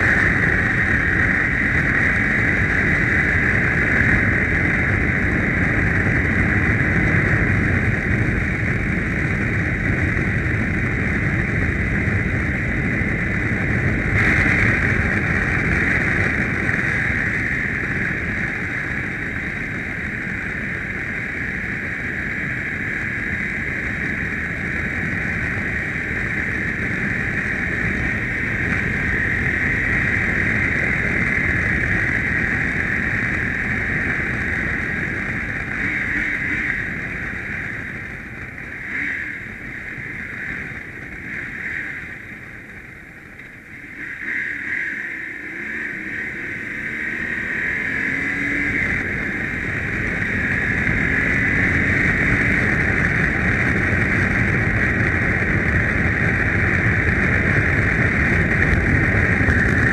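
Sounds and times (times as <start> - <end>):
motorcycle engine drone: 0.0 - 59.9
wind rushing over microphone: 0.0 - 59.9.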